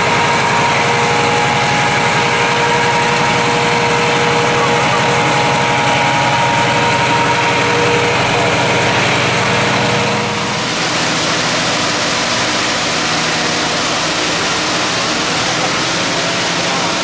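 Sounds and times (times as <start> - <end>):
diesel mixer truck engine running: 0.0 - 17.0
steady rushing noise: 0.0 - 17.0.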